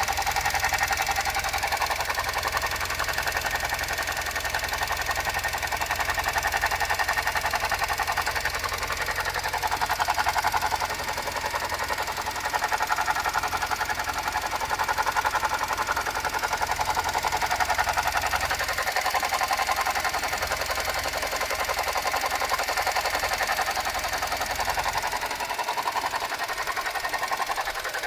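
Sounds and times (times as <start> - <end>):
car engine idling: 0.0 - 28.0
fast even rattle: 0.0 - 28.0.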